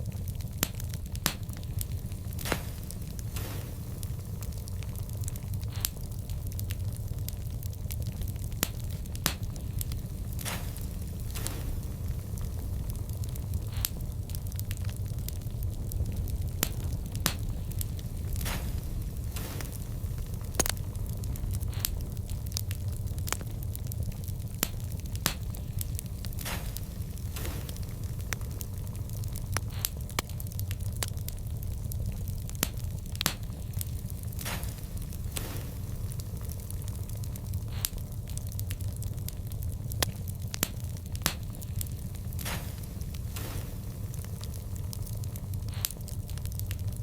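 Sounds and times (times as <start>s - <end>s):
fire low rumble: 0.0s - 47.0s
wood fire crackling and popping: 0.0s - 47.0s.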